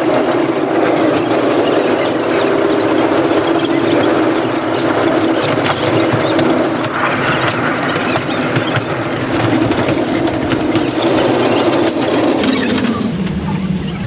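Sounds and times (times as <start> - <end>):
rattling clicks: 0.0 - 13.8
vehicle mechanical drone: 0.0 - 14.0.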